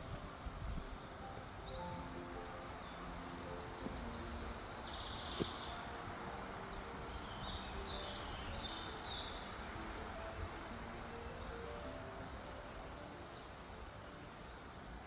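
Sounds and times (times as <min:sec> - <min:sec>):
steady background hiss: 0:00.0 - 0:15.0
wild birds chirping: 0:00.0 - 0:15.0.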